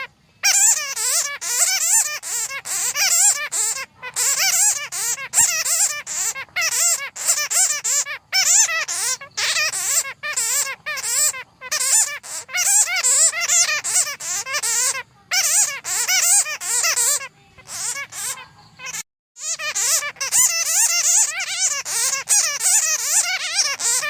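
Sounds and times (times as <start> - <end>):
bats squeaking and chittering: 0.0 - 24.0.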